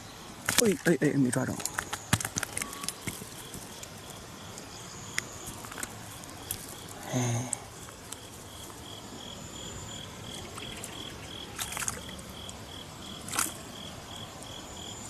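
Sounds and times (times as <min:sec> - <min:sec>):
faint outdoor background: 0:00.0 - 0:15.0
insect chirping: 0:00.0 - 0:15.0.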